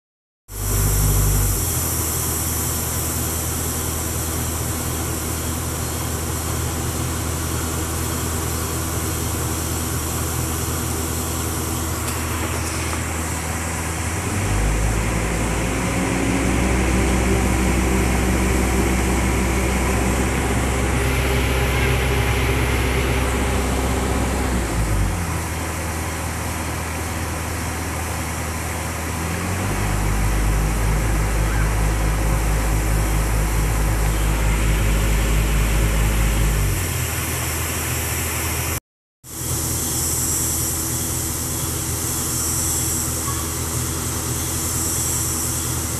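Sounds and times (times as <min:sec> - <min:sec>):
excavator diesel engine running: 0:00.5 - 0:45.9.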